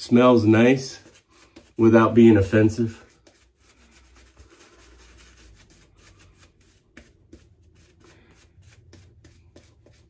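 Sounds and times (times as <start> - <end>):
shaving brush rubbing lather: 0.0 - 10.0.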